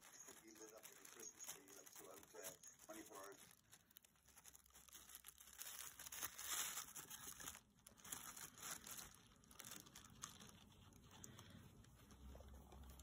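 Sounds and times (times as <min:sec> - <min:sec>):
tissue paper rustling: 0:00.0 - 0:13.0.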